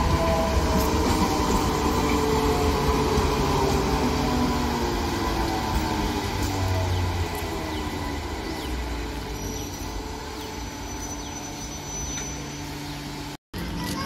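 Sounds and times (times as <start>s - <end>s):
electric train hum and rumble: 0.0s - 14.0s.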